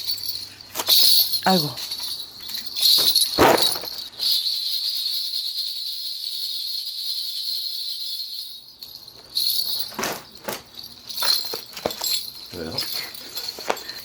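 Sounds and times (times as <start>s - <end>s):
bells jingling: 0.0s - 14.0s.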